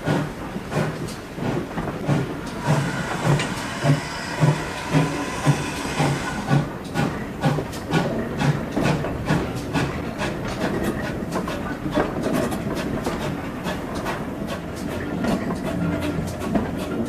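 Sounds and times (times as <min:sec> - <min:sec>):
train carriage rumbling: 0:00.0 - 0:17.0
wheels clicking over rail joints: 0:00.0 - 0:17.0.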